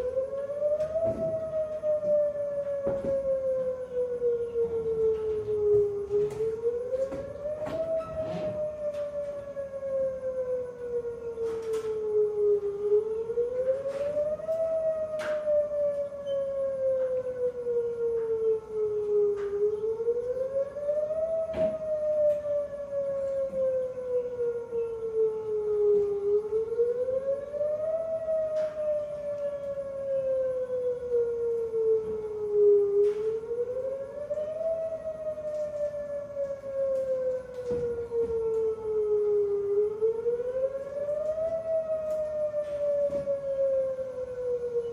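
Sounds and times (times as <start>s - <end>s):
warning siren wailing: 0.0s - 44.9s.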